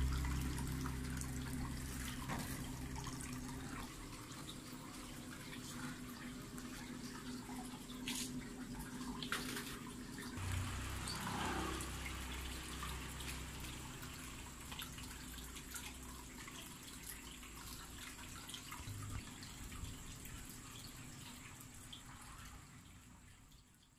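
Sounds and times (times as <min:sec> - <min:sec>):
faint trickle of water: 0:00.0 - 0:23.9.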